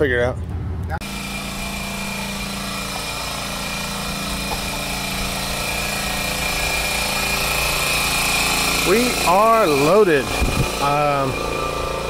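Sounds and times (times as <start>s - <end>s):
high-pitched whine: 0.3s - 12.0s
engine idling: 0.4s - 12.0s.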